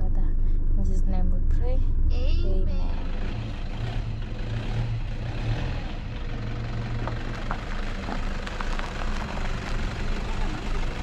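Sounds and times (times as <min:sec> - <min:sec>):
diesel engine low hum: 0:00.0 - 0:11.0.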